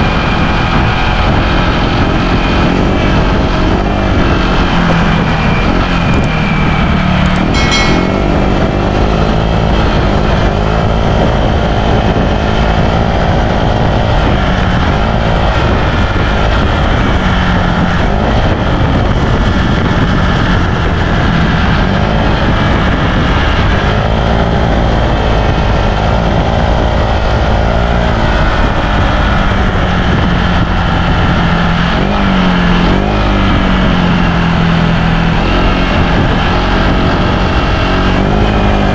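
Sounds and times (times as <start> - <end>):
scooter engine droning: 0.0 - 38.9.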